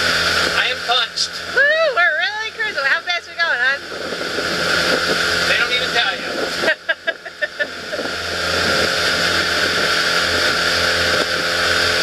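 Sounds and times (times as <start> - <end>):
boat motor at full throttle: 0.0 - 12.0
wind and water noise: 0.0 - 12.0.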